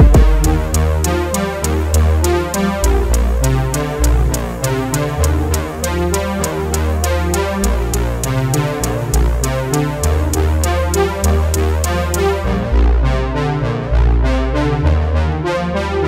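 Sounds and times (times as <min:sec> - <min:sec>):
electronic music with deep bass: 0:00.0 - 0:16.0.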